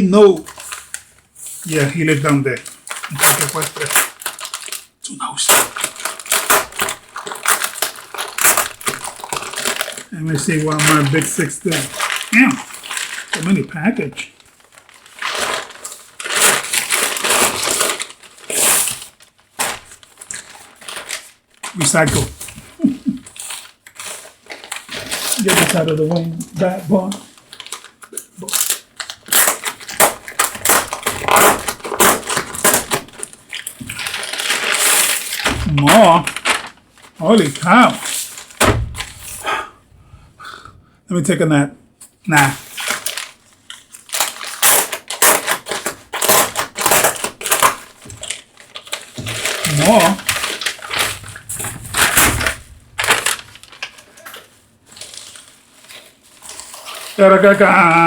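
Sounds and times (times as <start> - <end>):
packaging crumpling: 0.2 - 39.6, 42.3 - 58.0.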